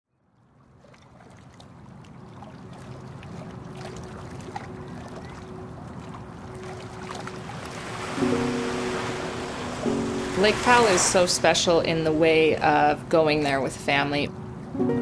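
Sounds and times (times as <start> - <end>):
water lapping: 0.2 - 14.7.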